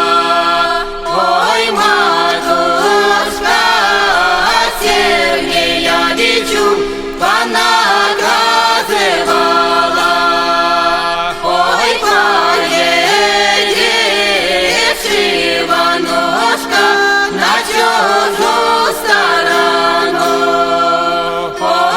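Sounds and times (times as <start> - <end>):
chant-like singing: 0.0 - 21.9.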